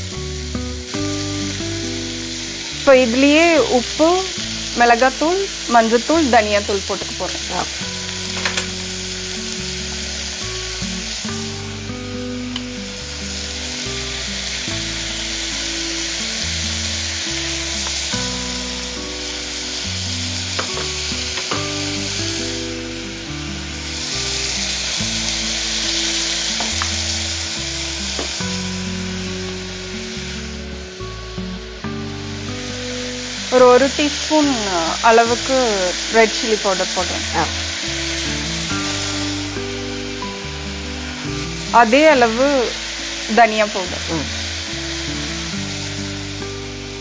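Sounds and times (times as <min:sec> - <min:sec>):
food sizzling in oil: 0:00.0 - 0:47.0
soft background music: 0:00.0 - 0:47.0.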